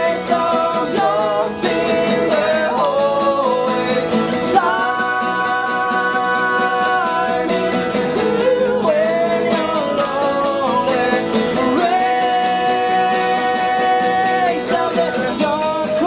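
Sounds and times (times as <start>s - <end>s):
band playing country song: 0.0s - 16.0s
plucked guitar: 0.0s - 16.0s.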